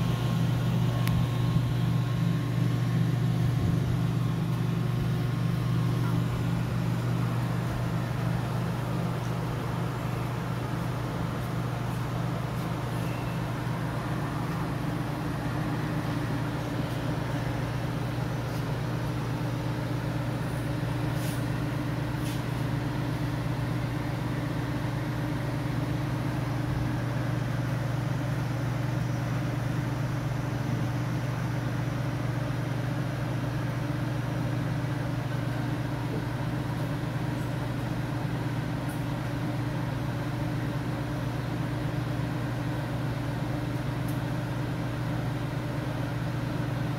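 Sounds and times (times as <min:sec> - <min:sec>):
oven blower fans humming: 0:00.0 - 0:46.9.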